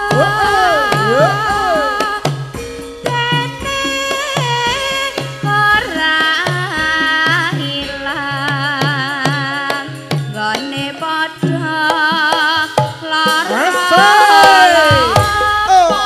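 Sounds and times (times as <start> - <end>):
gamelan accompaniment: 0.0 - 16.0
woman singing with vibrato: 0.0 - 16.0.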